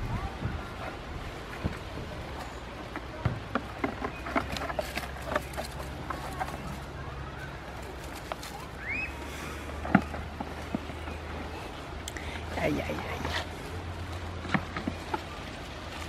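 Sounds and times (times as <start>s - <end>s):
goat hooves clattering: 0.0s - 16.0s.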